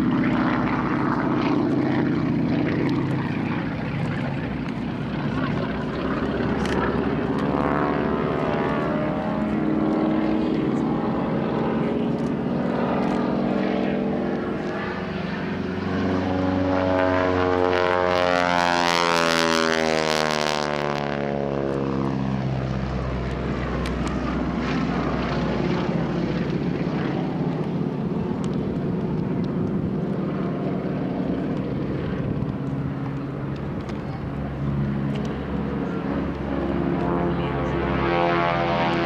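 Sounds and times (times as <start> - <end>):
propeller plane passing low: 0.0 - 39.0.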